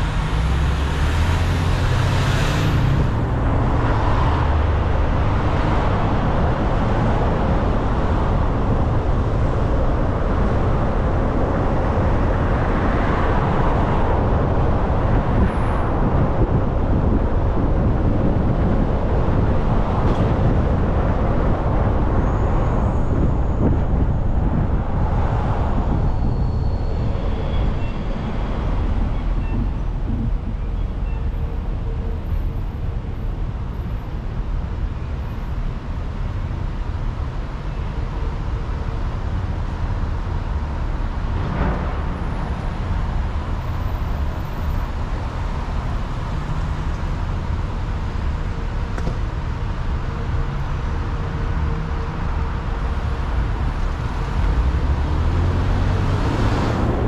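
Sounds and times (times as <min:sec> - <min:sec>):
car driving on road: 0:00.0 - 0:57.0
idling traffic noise: 0:00.0 - 0:57.0.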